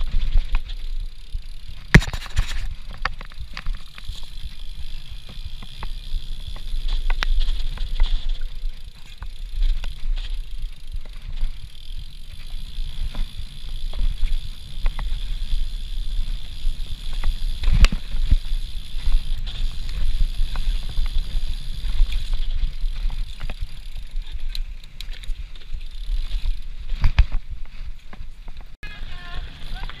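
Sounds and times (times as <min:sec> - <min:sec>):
bike rattling and clicking: 0:00.0 - 0:30.0
wind and tyres rumbling on trail: 0:00.0 - 0:30.0.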